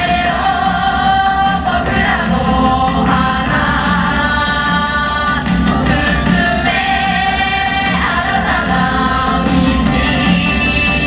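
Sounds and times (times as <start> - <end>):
chorus singing over dance music: 0.0 - 11.0.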